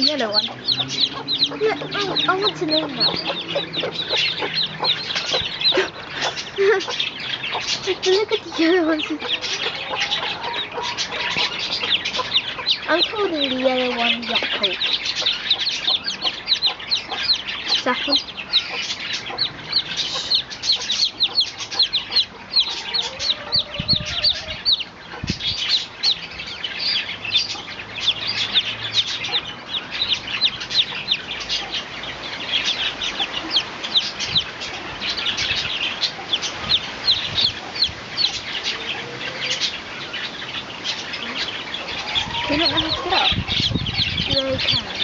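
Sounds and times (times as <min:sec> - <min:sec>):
chicks peeping: 0:00.0 - 0:45.0.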